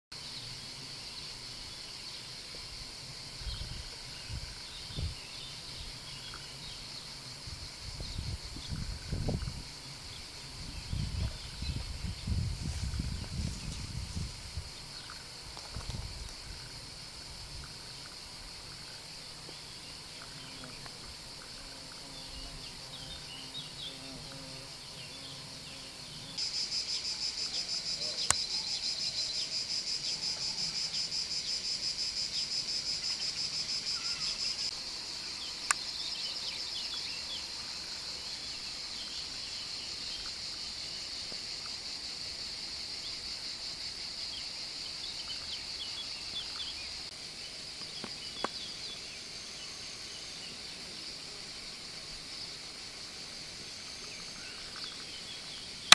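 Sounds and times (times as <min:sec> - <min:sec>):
cicadas buzzing: 0:00.1 - 0:55.9
loud pulsing cicada song: 0:00.1 - 0:55.9.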